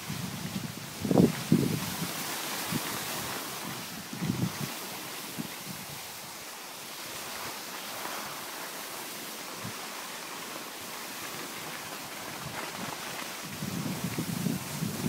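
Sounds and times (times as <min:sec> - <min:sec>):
wind hiss on microphone: 0:00.0 - 0:15.0.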